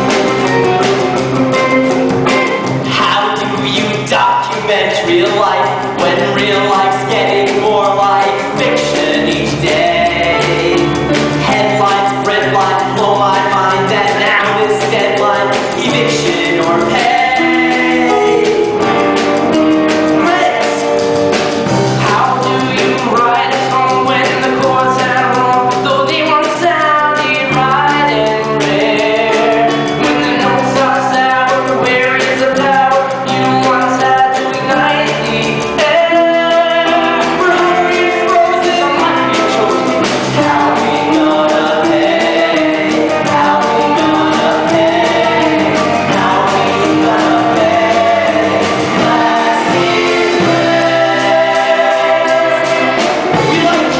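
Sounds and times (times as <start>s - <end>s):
rock band accompaniment: 0.0s - 53.9s
voices singing together: 2.9s - 21.0s, 22.0s - 53.9s.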